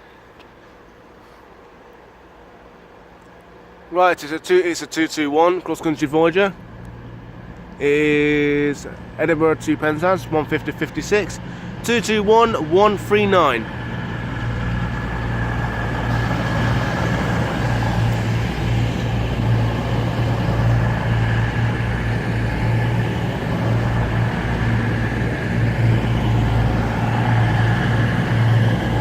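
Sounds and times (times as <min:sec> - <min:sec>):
diesel train engine droning: 0:00.0 - 0:29.0.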